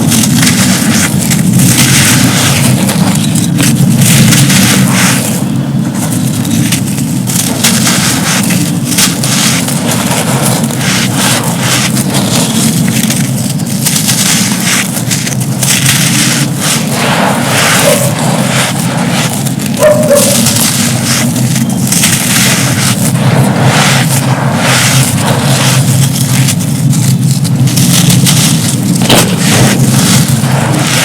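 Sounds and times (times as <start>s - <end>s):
hands crushing dry cups: 0.0s - 31.0s
low rumble: 0.0s - 31.0s.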